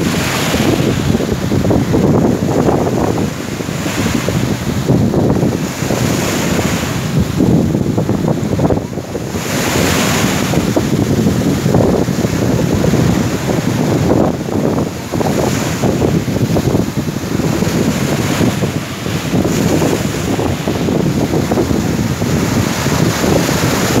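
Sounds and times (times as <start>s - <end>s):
surf breaking on shore: 0.0s - 24.0s
wind buffeting microphone: 0.0s - 24.0s.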